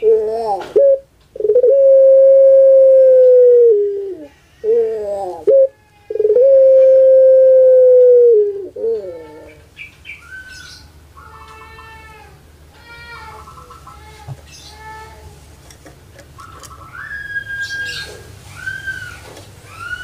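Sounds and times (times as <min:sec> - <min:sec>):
dove calling: 0:00.0 - 0:11.8, 0:13.2 - 0:14.8, 0:16.2 - 0:20.0.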